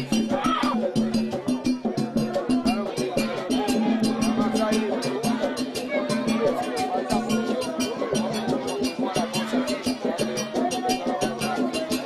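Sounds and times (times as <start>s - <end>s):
group chanting: 0.0s - 12.0s
quick percussion strokes: 0.0s - 12.0s.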